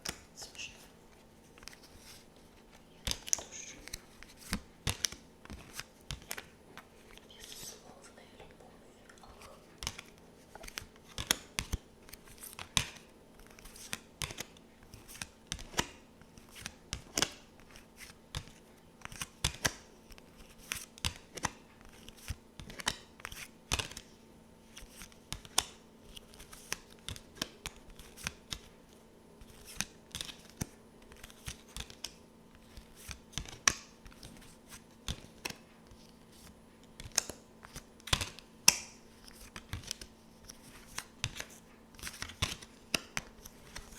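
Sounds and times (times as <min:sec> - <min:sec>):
cards clicking and snapping: 0:00.0 - 0:00.5, 0:03.0 - 0:07.6, 0:09.8 - 0:24.1, 0:24.7 - 0:28.7, 0:29.4 - 0:43.9.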